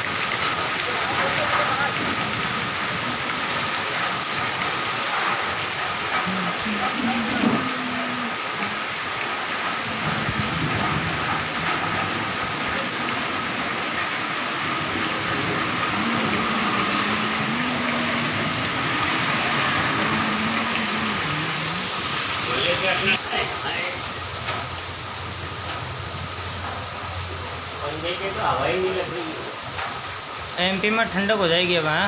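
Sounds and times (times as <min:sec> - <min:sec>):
heavy rain on pavement: 0:00.0 - 0:32.0.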